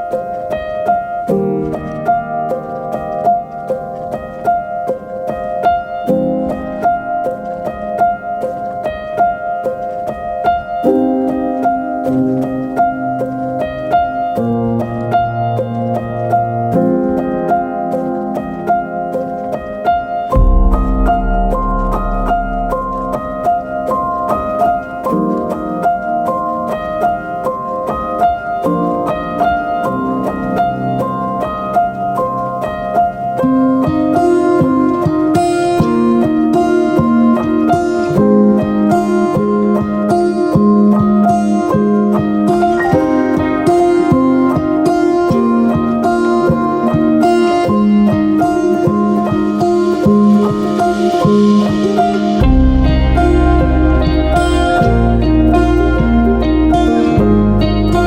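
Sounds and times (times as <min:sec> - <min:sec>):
piano tune over low chords: 0:00.0 - 0:58.0.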